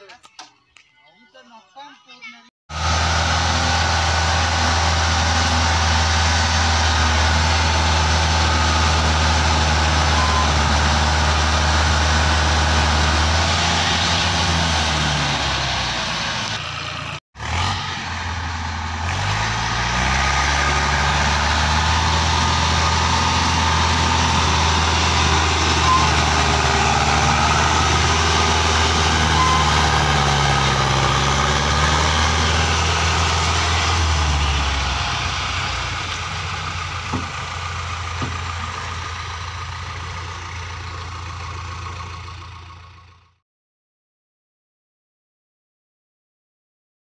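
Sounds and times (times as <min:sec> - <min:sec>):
backhoe loader diesel engine: 0:02.7 - 0:43.4
tractor diesel engine straining: 0:02.7 - 0:43.4.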